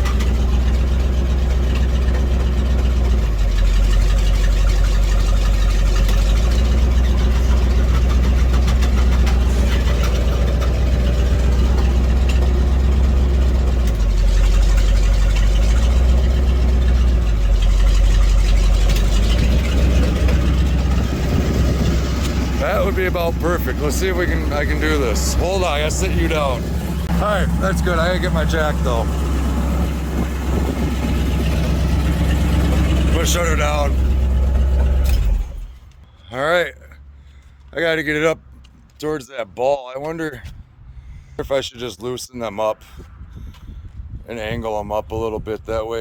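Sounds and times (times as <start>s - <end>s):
truck engine idling: 0.0s - 39.2s.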